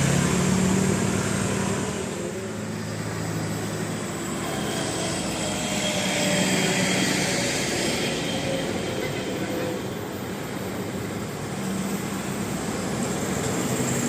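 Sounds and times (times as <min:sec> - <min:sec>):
bus engine running: 0:00.0 - 0:14.0
road noise: 0:00.0 - 0:14.0.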